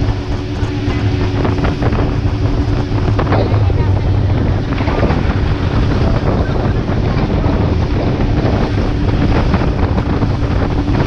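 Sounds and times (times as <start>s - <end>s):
motorboat engine humming: 0.0s - 11.0s
water rushing past hull: 0.0s - 11.0s
wind buffeting microphone: 0.0s - 11.0s.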